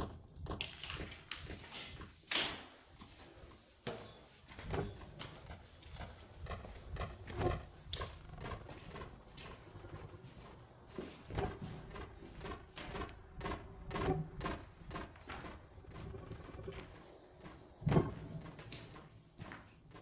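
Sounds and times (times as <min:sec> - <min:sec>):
footsteps on hard stairs: 0:00.0 - 0:20.0.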